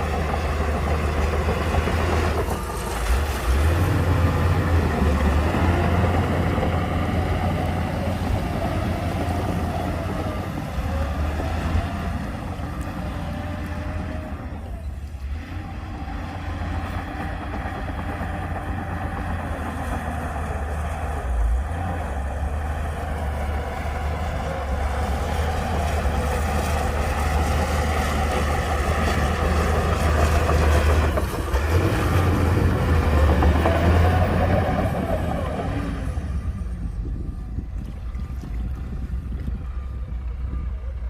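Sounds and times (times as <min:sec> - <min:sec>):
diesel engine rumbling under load: 0:00.0 - 0:41.0.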